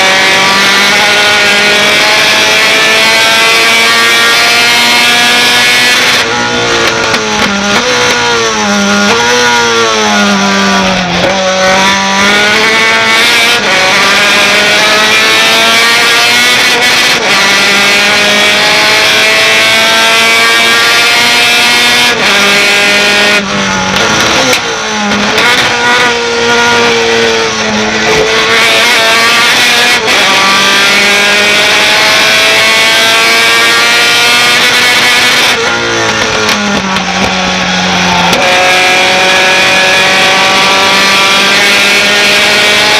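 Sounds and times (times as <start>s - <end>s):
truck engine at full throttle: 0.0s - 42.9s.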